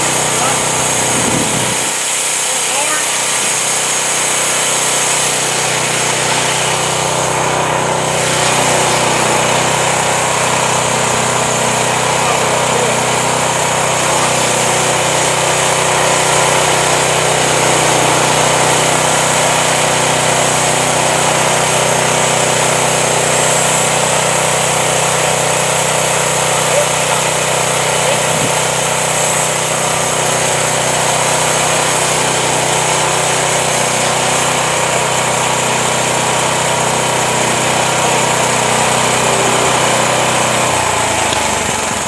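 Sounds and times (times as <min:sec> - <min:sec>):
band sawmill running: 0:00.0 - 0:42.0.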